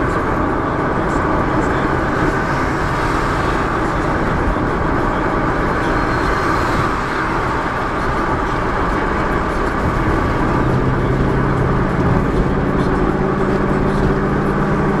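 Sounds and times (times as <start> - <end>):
car engine: 0.0 - 15.0
road rumble: 0.0 - 15.0.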